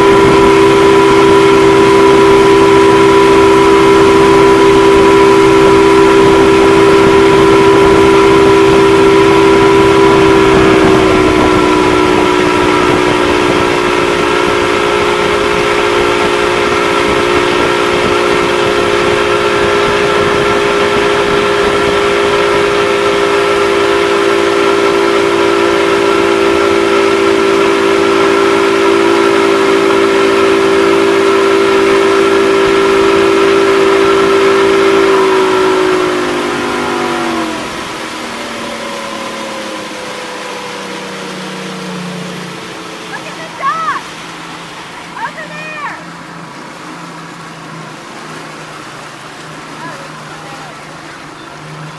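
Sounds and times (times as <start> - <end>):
motorboat engine droning: 0.0 - 51.9
wind and wake water hiss: 0.0 - 51.9.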